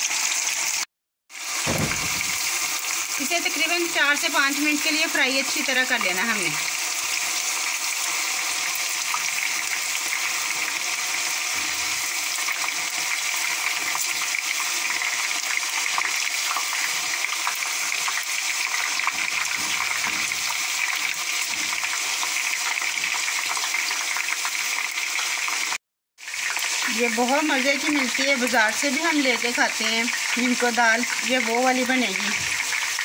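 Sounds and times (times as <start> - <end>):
lentils sizzling in hot oil: 0.0 - 33.0.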